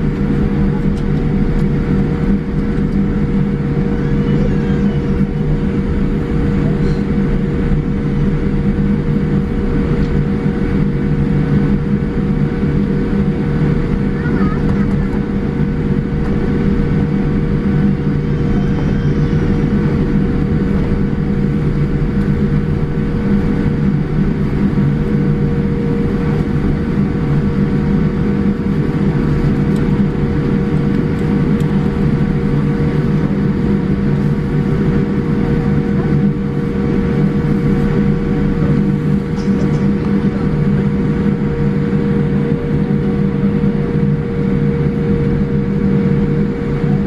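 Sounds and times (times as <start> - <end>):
aircraft cabin engine hum: 0.0 - 47.0.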